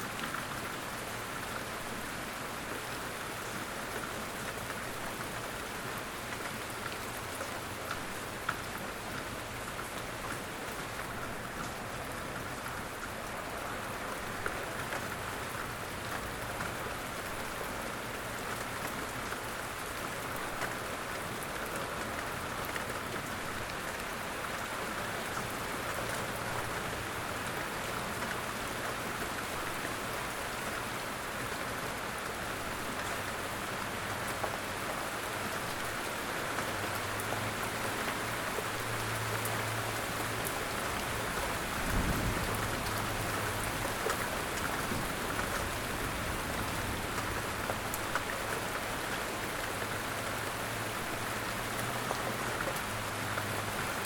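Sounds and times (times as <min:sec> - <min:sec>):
light rain in woodland: 0:00.0 - 0:54.0.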